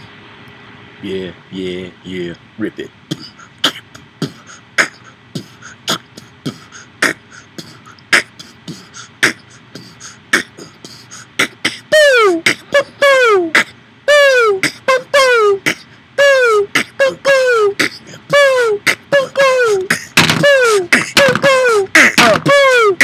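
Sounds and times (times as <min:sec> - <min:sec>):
falling vocal glides: 0:03.1 - 0:23.0
vocal beatboxing: 0:03.1 - 0:23.0.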